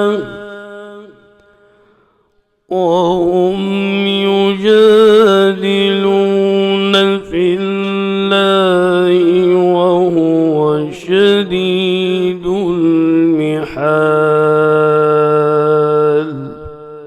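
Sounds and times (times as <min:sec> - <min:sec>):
man chanting melodic recitation: 0:00.0 - 0:01.4, 0:02.7 - 0:17.0.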